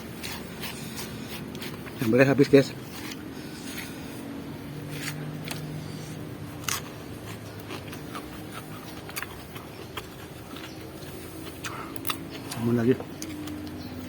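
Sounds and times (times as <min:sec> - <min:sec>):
chewing crisp vegetables: 0:00.0 - 0:14.0.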